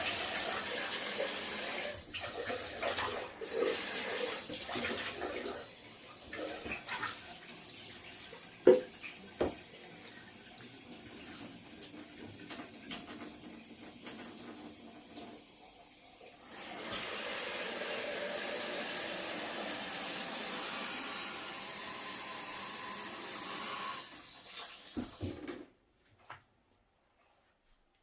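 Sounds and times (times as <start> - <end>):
tap water running into sink: 0.0 - 25.6.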